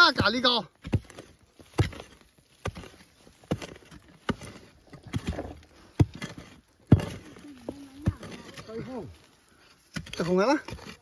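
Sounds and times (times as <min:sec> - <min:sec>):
hoe chopping into earth: 0:00.0 - 0:09.0.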